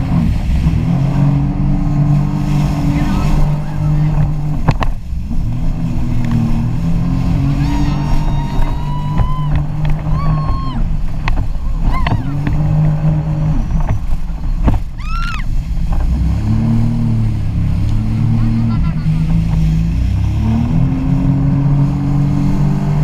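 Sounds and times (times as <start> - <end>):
personal watercraft engine: 0.0 - 23.0.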